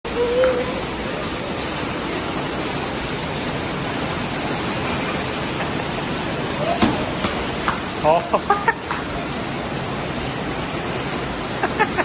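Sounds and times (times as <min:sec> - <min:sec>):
steady rain falling: 0:00.1 - 0:12.0.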